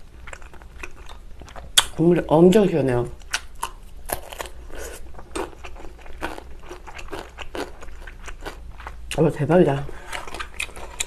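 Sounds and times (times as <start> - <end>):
food chewing with crunches: 0.0 - 2.0, 3.2 - 9.2, 9.9 - 11.0.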